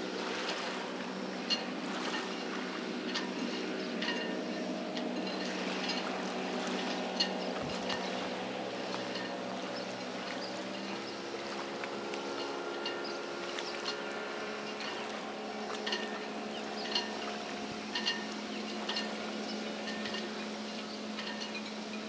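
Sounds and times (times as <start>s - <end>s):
low motor drone: 0.0s - 22.0s
water lapping and splashing: 0.0s - 22.0s.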